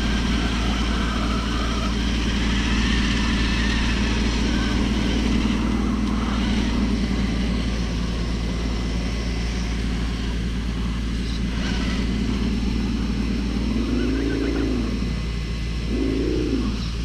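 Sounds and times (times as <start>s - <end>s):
toy truck motor drone: 0.0s - 17.0s.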